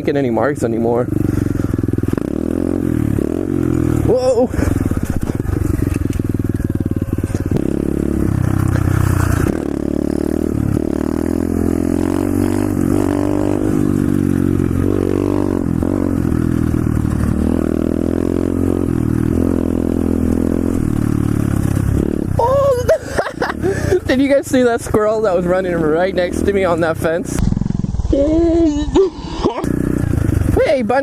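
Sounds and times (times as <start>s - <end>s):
motorbike engine revving: 0.0s - 31.0s.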